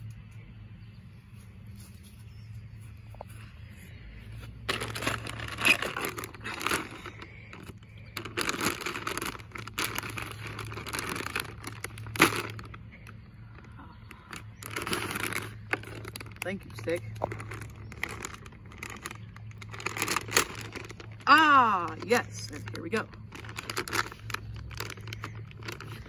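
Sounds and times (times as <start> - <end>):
plastic bag crinkling and tearing: 4.6 - 26.0.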